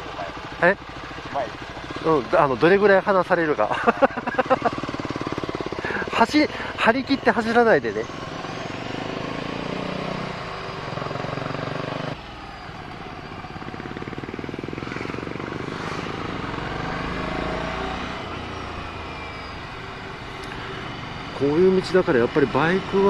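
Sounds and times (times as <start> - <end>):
motorcycle engine while riding: 0.0 - 23.0.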